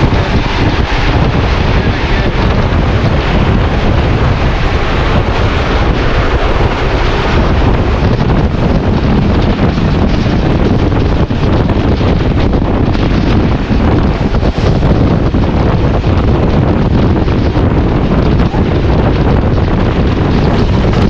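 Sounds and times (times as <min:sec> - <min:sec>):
diesel locomotive rumbling: 0:00.0 - 0:21.0
wind buffeting microphone: 0:00.0 - 0:21.0.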